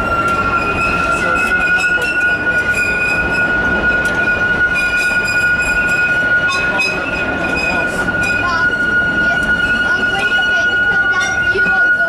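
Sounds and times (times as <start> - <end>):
train cars rumbling: 0.0 - 12.0
wheels squealing: 0.0 - 12.0.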